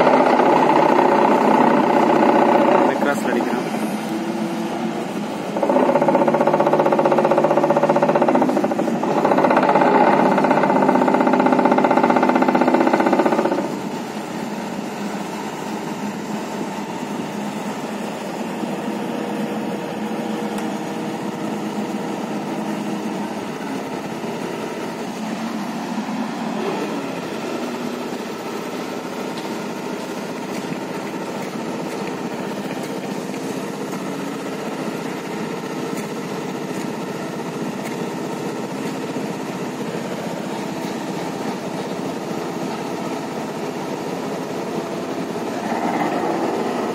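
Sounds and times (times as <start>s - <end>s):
diesel engine under load: 0.0s - 46.9s
vibratory pile driver drone: 0.0s - 46.9s.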